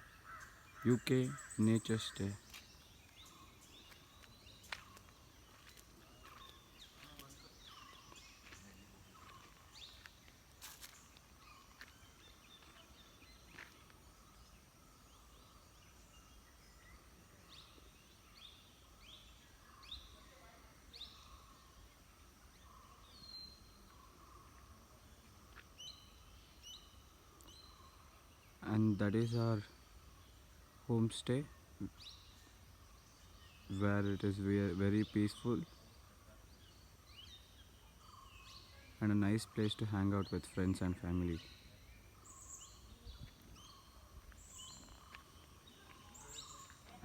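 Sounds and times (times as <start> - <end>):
bird chirps: 0.0 - 47.0.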